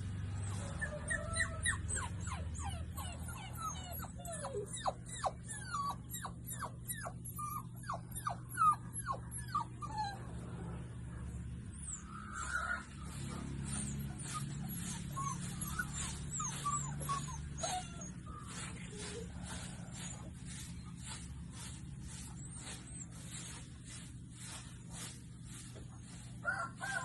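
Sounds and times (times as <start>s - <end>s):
puppies whimpering: 0.0s - 10.5s, 11.3s - 25.0s.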